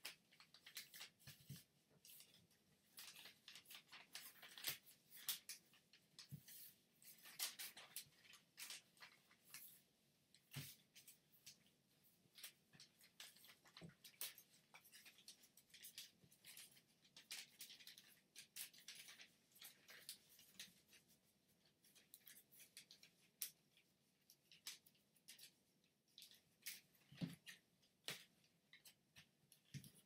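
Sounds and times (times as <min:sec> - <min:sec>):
paper crinkling while folded: 0:00.0 - 0:30.0.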